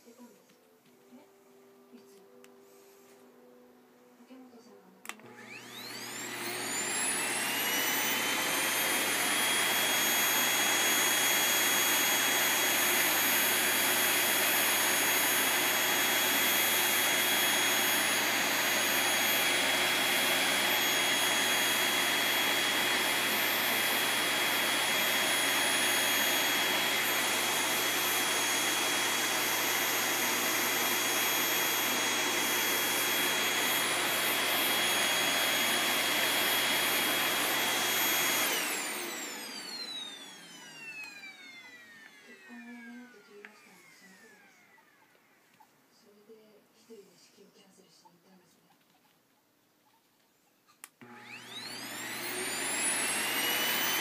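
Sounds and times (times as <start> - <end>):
vacuum cleaner motor whine: 5.1 - 45.6, 51.0 - 54.0.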